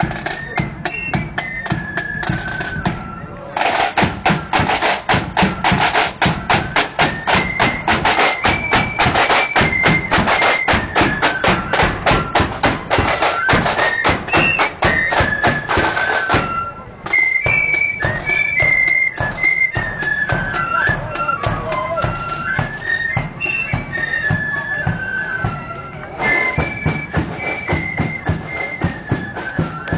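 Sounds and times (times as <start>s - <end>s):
flutes playing a melody: 0.0s - 29.9s.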